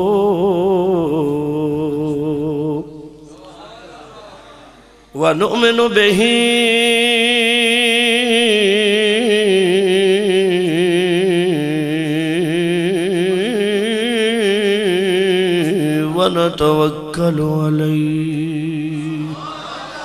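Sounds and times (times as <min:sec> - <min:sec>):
man chanting melodically: 0:00.0 - 0:19.6.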